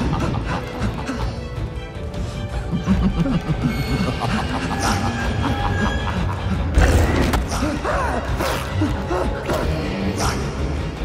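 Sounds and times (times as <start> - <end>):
tense film score: 0.0 - 11.0.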